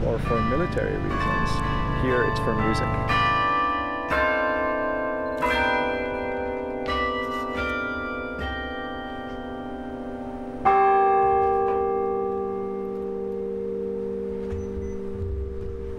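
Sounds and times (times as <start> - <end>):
carillon bells ringing: 0.0 - 15.9.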